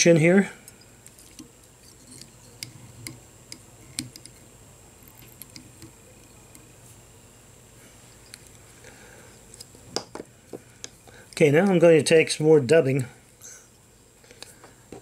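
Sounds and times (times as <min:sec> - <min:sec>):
steady faint hum: 0:00.0 - 0:15.0.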